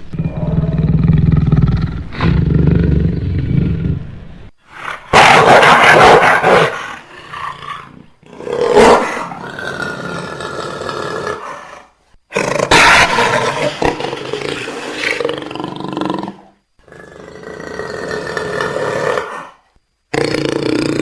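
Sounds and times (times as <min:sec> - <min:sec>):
big cat roaring and growling: 0:00.1 - 0:21.0.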